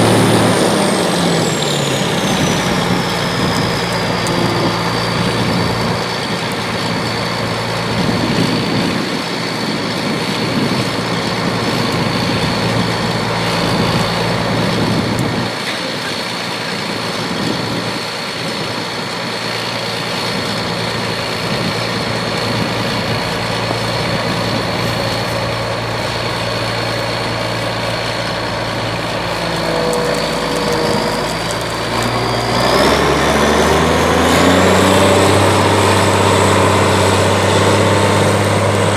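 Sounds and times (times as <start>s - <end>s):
high machine whine: 0.0s - 15.8s, 20.4s - 38.9s
combine harvester diesel engine: 0.0s - 38.9s.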